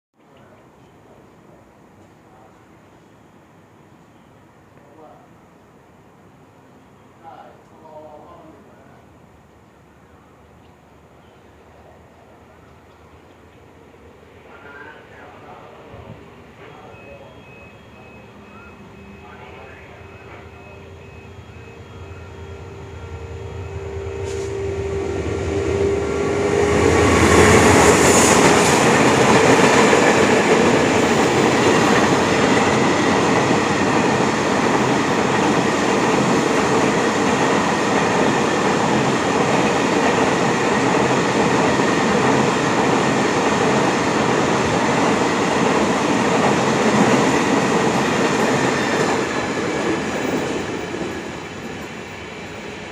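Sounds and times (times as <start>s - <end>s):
freight train rolling past: 5.0s - 52.9s.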